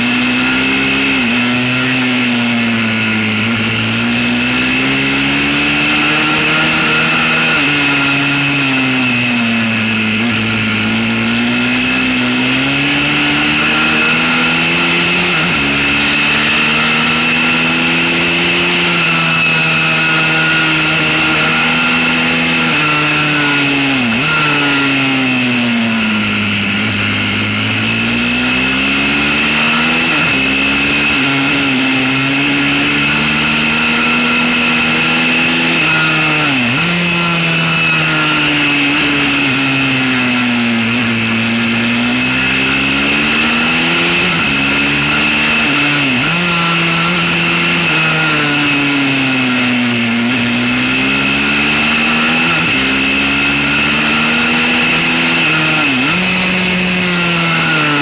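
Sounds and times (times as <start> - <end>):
pit bike engine revving: 0.0 - 58.0
steady high whine: 0.0 - 58.0.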